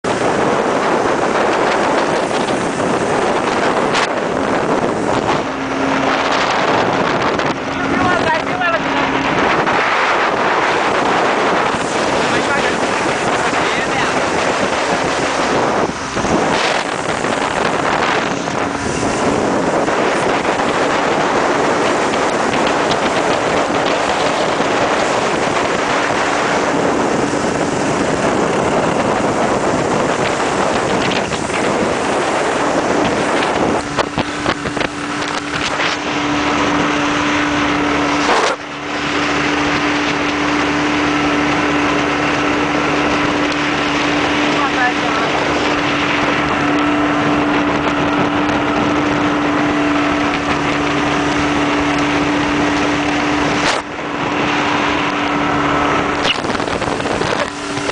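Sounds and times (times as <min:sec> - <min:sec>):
motorboat engine running: 0:00.0 - 0:57.9
water rushing past hull: 0:00.0 - 0:57.9
wind on microphone: 0:00.0 - 0:57.9.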